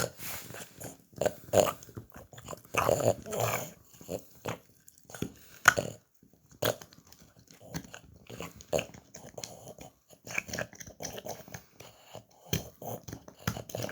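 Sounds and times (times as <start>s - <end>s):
dog crunching a bone: 0.0s - 13.9s.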